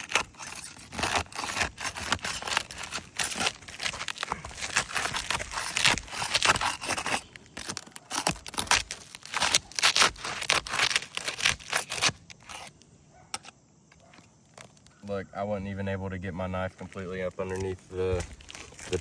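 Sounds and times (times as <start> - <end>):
knife scraping under roof shingles: 0.0 - 15.0, 16.9 - 19.0.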